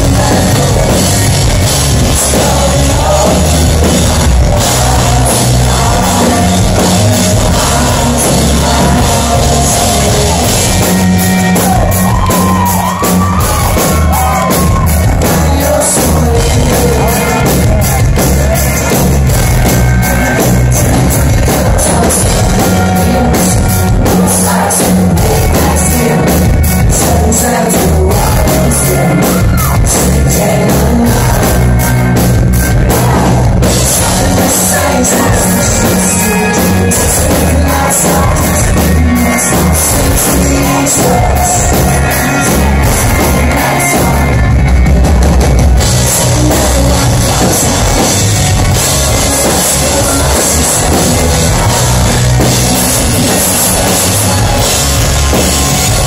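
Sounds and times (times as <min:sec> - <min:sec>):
lead vocal singing: 0:00.0 - 0:56.0
live rock band playing: 0:00.0 - 0:56.0.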